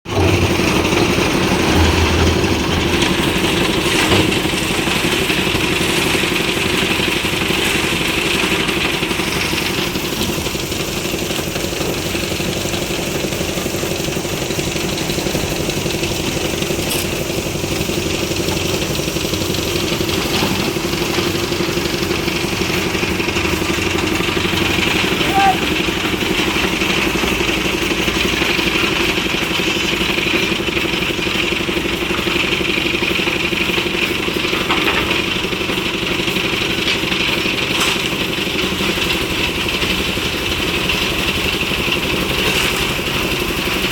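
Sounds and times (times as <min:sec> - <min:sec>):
concrete mixer engine humming: 0:00.0 - 0:43.9.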